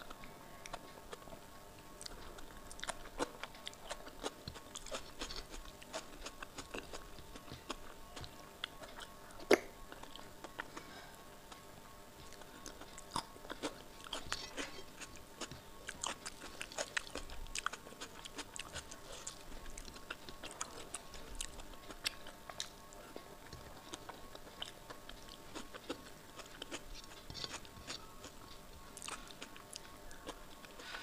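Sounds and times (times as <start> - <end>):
person chewing soft food: 0.0 - 31.0.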